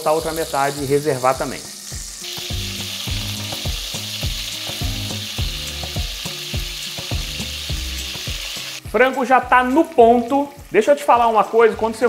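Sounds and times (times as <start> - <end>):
chicken sizzling in fat: 0.0 - 12.0.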